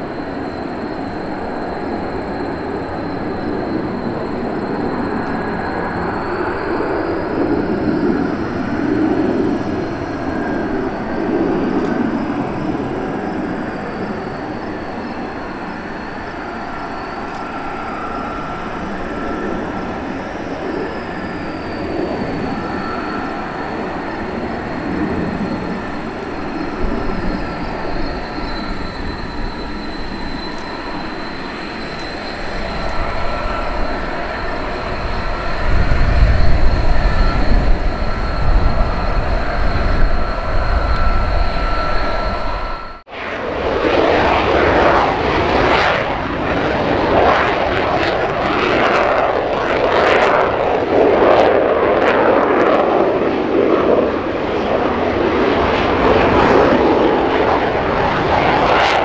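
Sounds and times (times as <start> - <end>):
deep jet rumble: 0.0 - 59.0
jet engines roaring: 0.0 - 59.0
turbine whine gliding down: 0.0 - 59.0.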